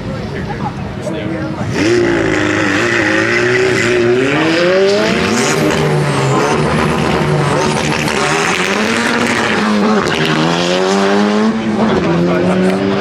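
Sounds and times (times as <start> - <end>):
car engine accelerating hard: 0.4 - 13.0.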